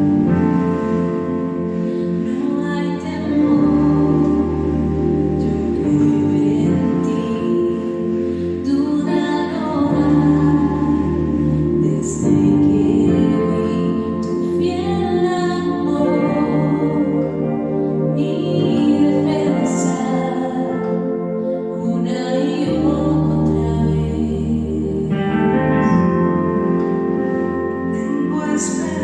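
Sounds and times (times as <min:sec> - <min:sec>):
person singing worship song: 0:00.0 - 0:29.0
sustained instrumental chords: 0:00.0 - 0:29.0.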